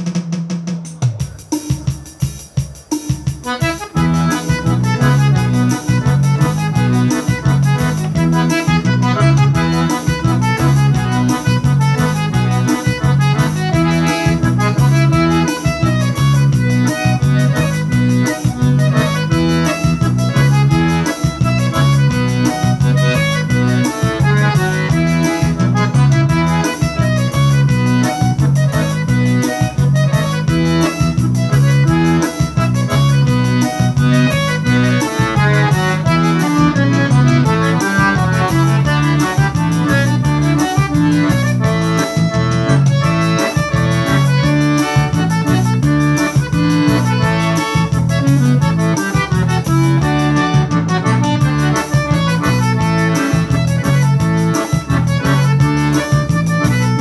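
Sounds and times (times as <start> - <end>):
accordion playing lively melody: 0.0 - 57.0
repeating bass line: 0.0 - 57.0
steady beat: 0.0 - 57.0.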